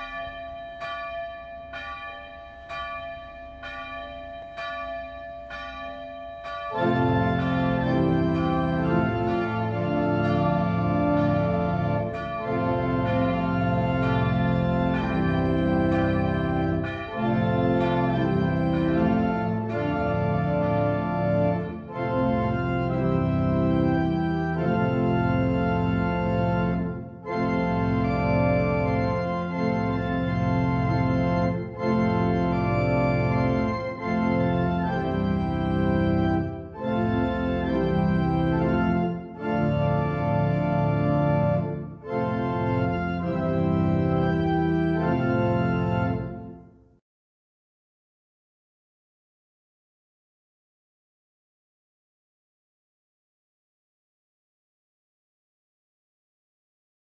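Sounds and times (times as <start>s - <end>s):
pipe organ playing sustained chords: 0.0s - 46.7s.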